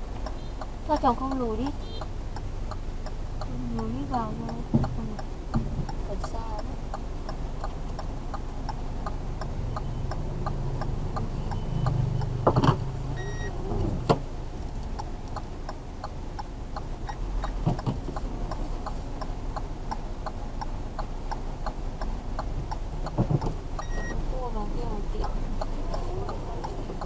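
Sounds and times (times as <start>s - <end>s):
idling engine hum: 0.0s - 27.0s
turn signal ticking: 0.0s - 27.0s.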